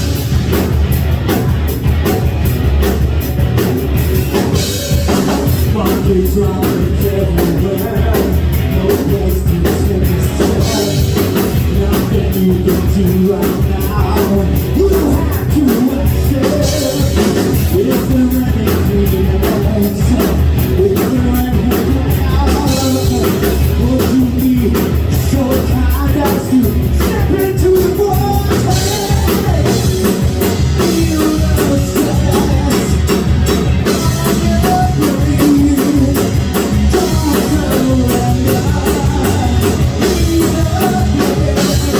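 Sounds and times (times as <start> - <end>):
drum kit beat: 0.0 - 41.9
electric guitars: 0.0 - 41.9
person singing: 4.3 - 41.9.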